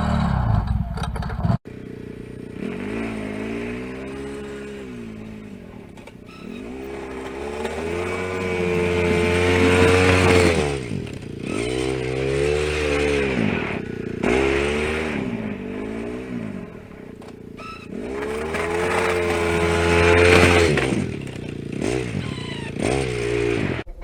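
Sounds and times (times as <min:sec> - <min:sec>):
vehicle engine revving: 0:00.0 - 0:24.0.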